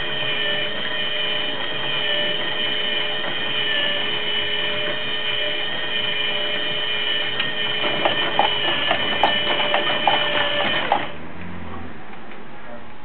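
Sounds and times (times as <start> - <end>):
small motor whining: 0.0 - 11.2.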